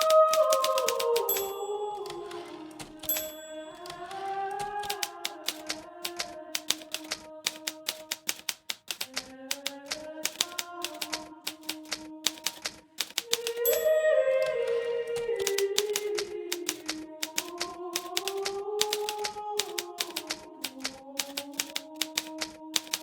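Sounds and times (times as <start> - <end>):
typewriter key strikes: 0.0 - 14.6, 15.4 - 23.0.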